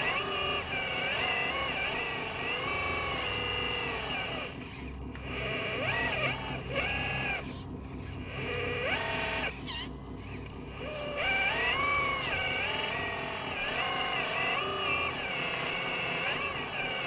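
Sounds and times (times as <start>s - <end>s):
electric motor whine: 0.0s - 17.0s
low hum: 0.0s - 17.0s.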